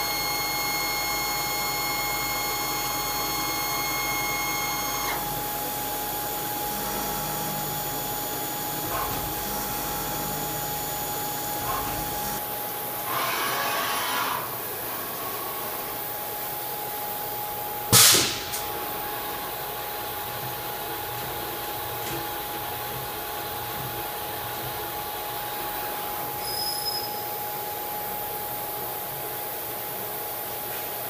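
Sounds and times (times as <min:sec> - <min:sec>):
machining center running: 0:00.0 - 0:13.2, 0:14.5 - 0:30.6.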